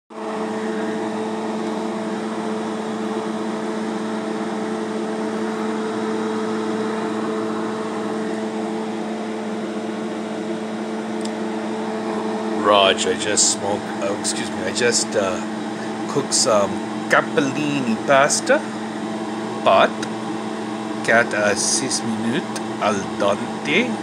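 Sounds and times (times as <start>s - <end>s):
electric fan motor humming: 0.1s - 24.0s.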